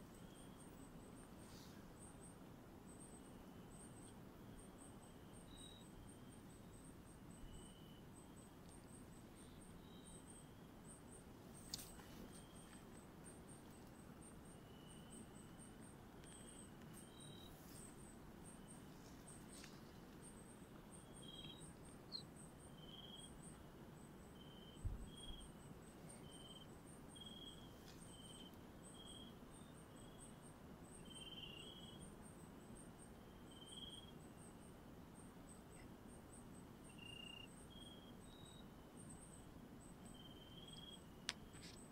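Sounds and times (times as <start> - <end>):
lower short insect chirp: 0.0 - 41.9
very high insect chirp: 0.1 - 41.9.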